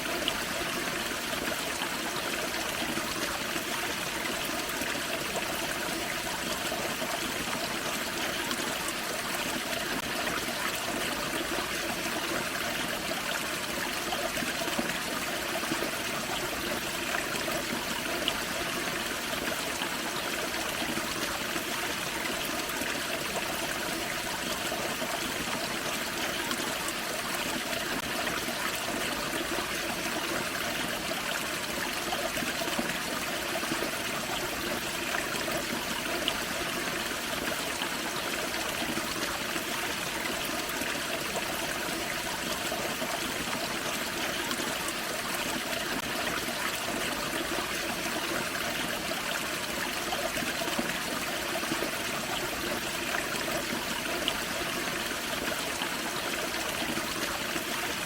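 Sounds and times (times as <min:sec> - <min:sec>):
small waterfall running: 0:00.0 - 0:58.0.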